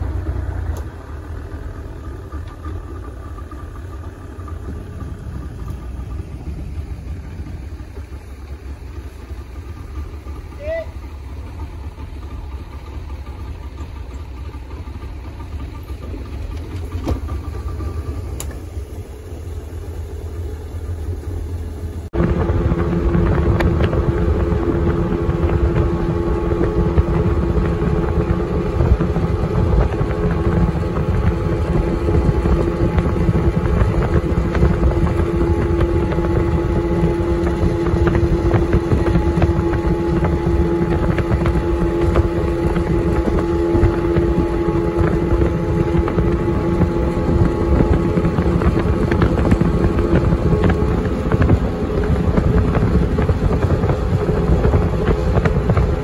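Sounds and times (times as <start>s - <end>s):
speedboat engine: 0.0s - 56.0s
water rushing: 0.0s - 56.0s
wind: 0.0s - 56.0s.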